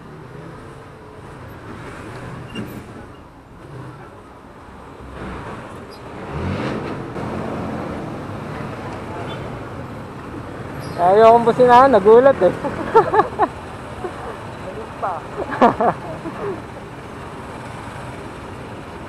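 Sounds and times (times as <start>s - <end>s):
traffic noise: 0.0s - 19.0s
wind: 0.0s - 19.0s.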